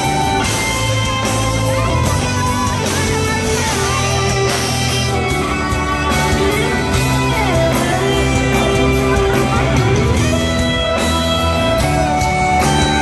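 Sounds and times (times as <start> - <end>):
electric guitar melody: 0.0 - 13.0
live rock band playing: 0.0 - 13.0.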